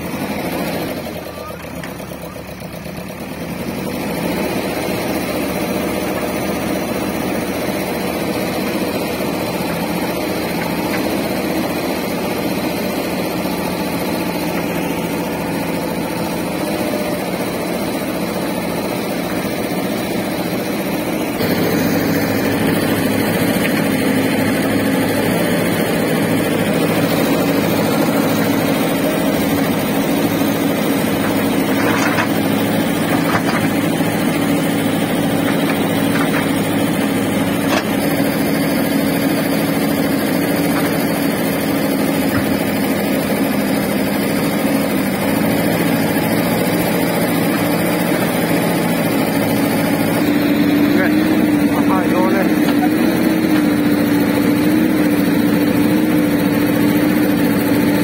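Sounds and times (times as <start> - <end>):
backhoe digging wet mud: 0.0 - 58.0
diesel engine running under load: 0.0 - 58.0.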